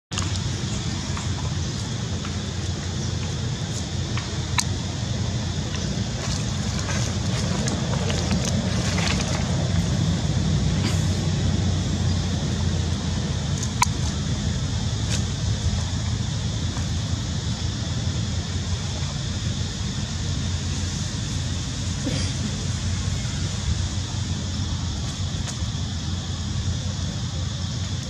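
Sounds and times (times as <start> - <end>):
low outdoor rumble: 0.1 - 28.0.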